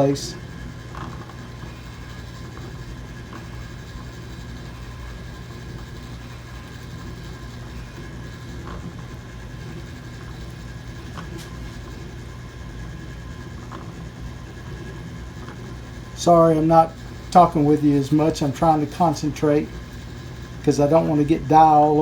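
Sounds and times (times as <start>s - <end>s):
small motor humming: 0.0s - 22.0s.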